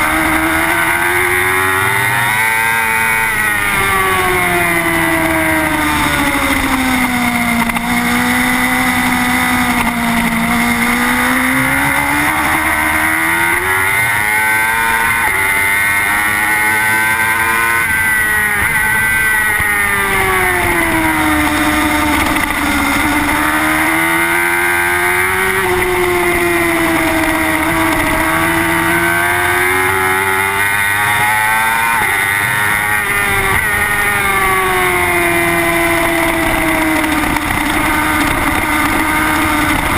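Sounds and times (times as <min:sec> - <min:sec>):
motorcycle engine at race pace: 0:00.0 - 0:39.9.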